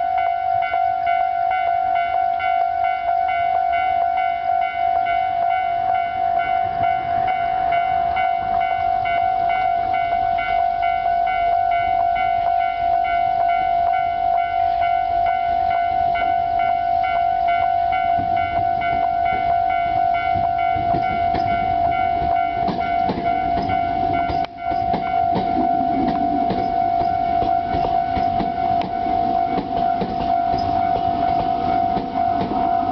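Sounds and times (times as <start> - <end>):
level crossing electronic bell: 0.0 - 32.9
train rumble and wheel clatter: 0.0 - 32.9.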